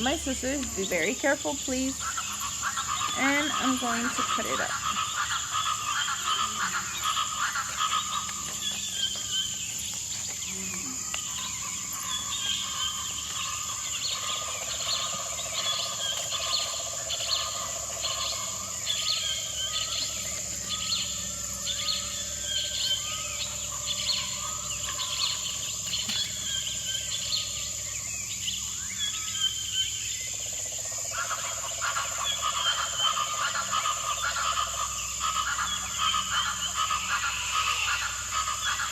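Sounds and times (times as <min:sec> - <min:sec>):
frogs croaking: 0:00.0 - 0:38.9
high-pitched insect drone: 0:00.0 - 0:38.9.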